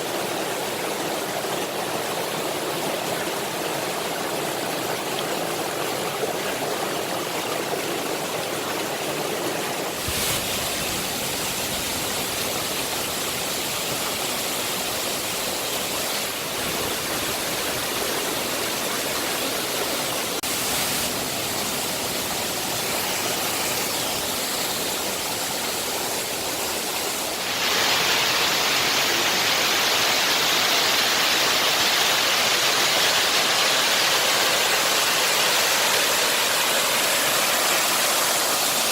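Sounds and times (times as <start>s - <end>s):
waterfall pouring over rocks: 0.0s - 38.9s.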